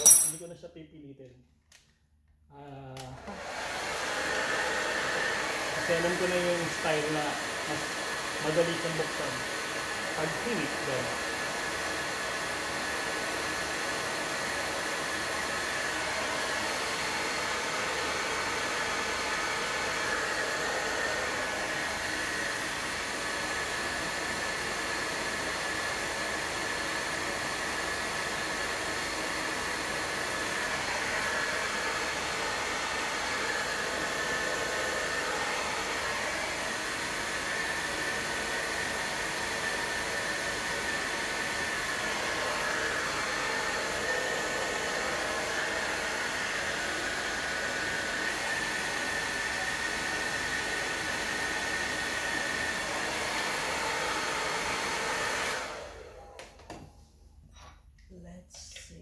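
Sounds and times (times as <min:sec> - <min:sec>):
hair dryer blowing: 0:02.9 - 0:57.1.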